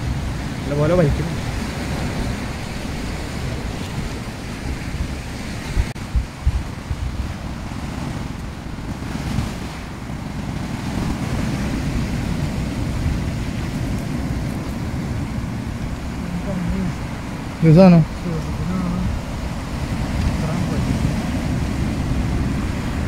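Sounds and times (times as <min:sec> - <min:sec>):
surf washing onto shore: 0:00.0 - 0:23.0
wind buffeting microphone: 0:00.0 - 0:23.0
low thumps: 0:01.3 - 0:22.8.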